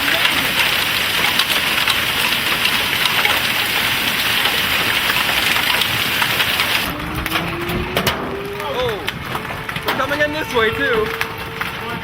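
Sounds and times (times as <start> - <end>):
hail clattering on hard surfaces: 0.0 - 12.0.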